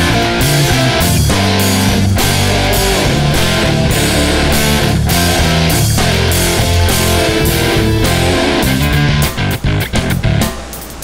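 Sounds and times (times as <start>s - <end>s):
guitar rock music: 0.0s - 11.0s.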